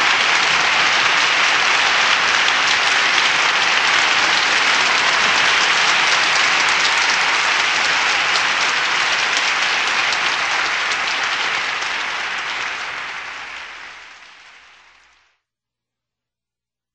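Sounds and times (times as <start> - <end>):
applause: 0.0 - 15.4.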